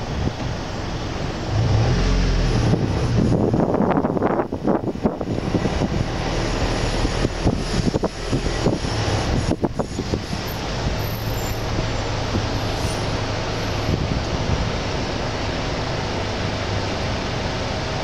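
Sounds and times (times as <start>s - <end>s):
car road and engine noise: 0.0s - 18.0s
wind buffeting microphone: 1.2s - 17.2s.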